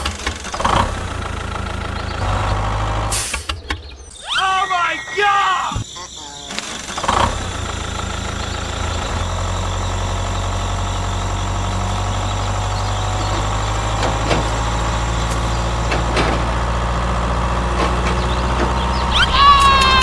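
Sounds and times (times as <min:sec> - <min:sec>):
engine idling: 0:00.0 - 0:04.1, 0:05.7 - 0:20.0.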